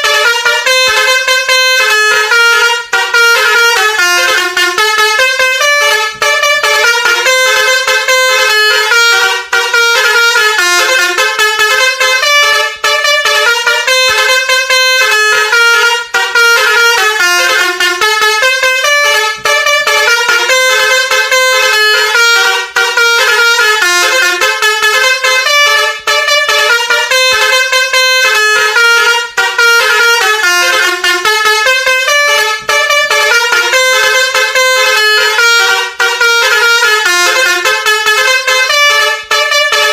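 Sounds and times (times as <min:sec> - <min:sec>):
musical horn playing melody: 0:00.0 - 0:39.9.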